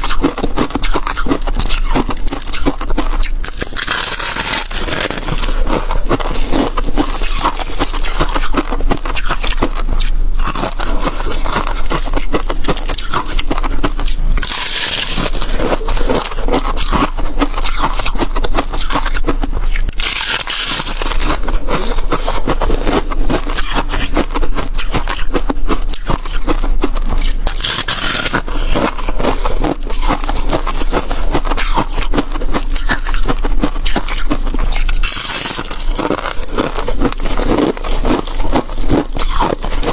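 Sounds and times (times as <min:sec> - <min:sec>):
frost ice crunching: 0:00.0 - 0:24.2, 0:24.8 - 0:39.9.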